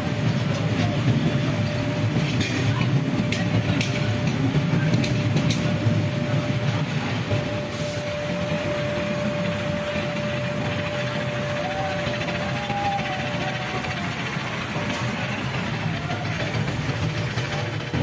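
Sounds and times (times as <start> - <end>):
furnace burners rushing: 0.0 - 18.0
thin steady whine: 0.0 - 18.0.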